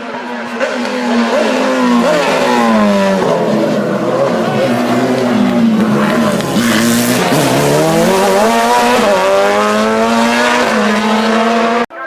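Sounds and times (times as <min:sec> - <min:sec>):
race car engine accelerating: 0:00.0 - 0:11.9.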